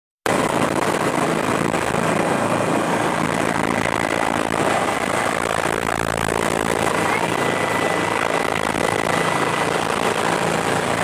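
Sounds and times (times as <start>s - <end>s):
helicopter engine and rotor: 0.2s - 11.0s
high whine: 0.3s - 11.0s.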